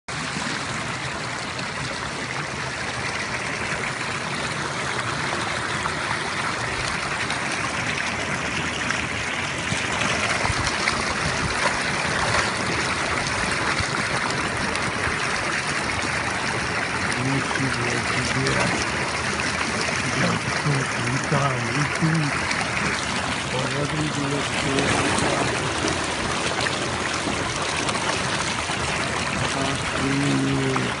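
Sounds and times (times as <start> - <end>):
river water flowing: 0.1 - 31.0.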